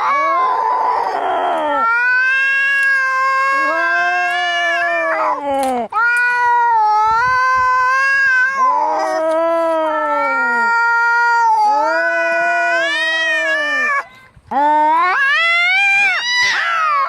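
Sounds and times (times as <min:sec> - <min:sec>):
cats yowling in a fight: 0:00.0 - 0:14.1, 0:14.9 - 0:17.0.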